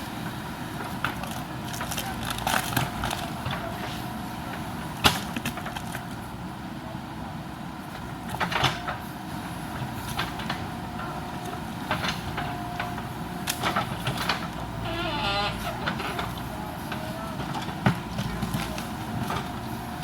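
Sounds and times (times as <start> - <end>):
diesel engine running with whine: 0.0 - 20.0.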